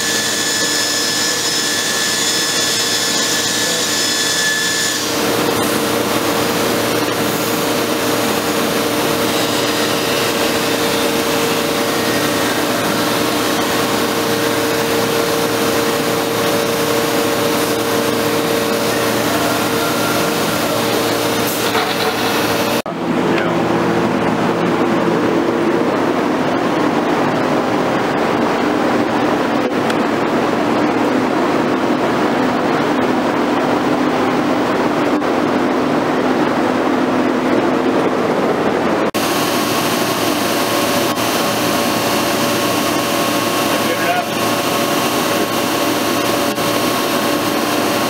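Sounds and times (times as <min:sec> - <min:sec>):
woodworking machine humming and hissing: 0:00.0 - 0:48.0.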